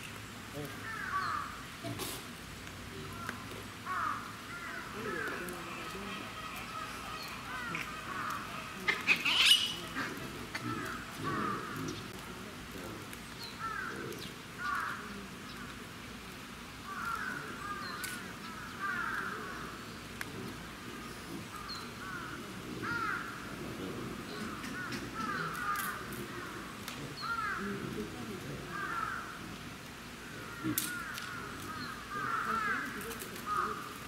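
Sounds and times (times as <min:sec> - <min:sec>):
low background murmur: 0:00.0 - 0:34.0.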